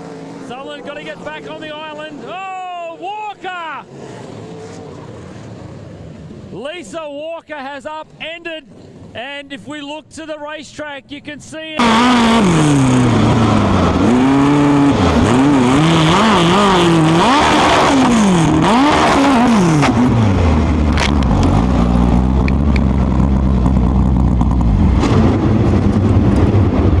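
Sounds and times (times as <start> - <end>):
race car engines revving: 0.0 - 7.0, 11.8 - 27.0.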